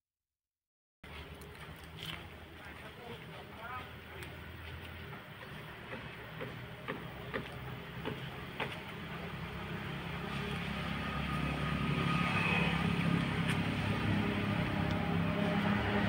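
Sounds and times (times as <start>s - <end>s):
vehicle engine approaching: 1.0s - 16.0s.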